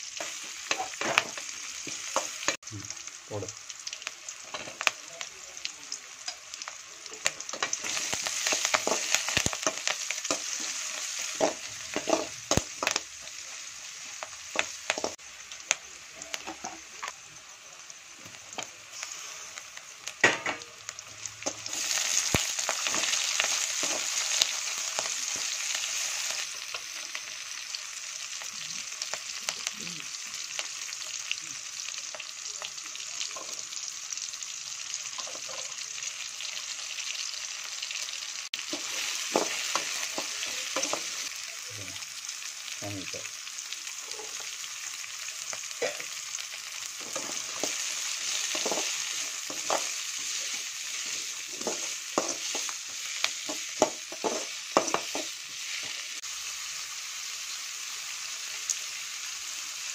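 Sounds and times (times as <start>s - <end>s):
vegetables sizzling in a pan: 0.0s - 59.9s.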